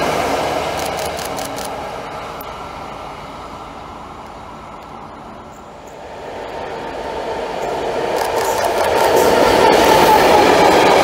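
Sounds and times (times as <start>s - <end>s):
approaching freight train: 0.0s - 11.0s
track machine running on rails: 0.0s - 11.0s.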